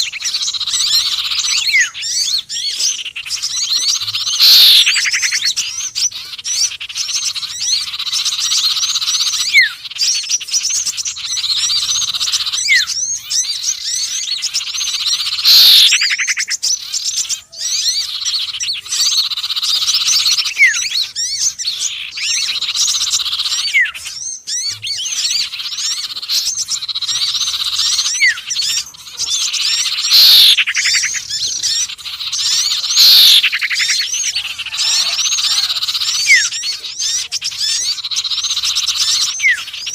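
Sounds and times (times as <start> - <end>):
downward-sweeping bird calls: 0.0 - 39.9
songbirds chirping: 0.0 - 39.9.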